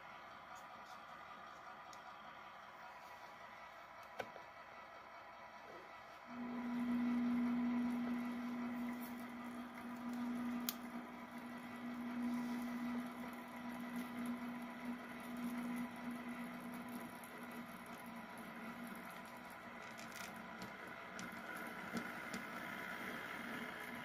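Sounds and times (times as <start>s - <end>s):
model train humming: 0.0s - 24.0s.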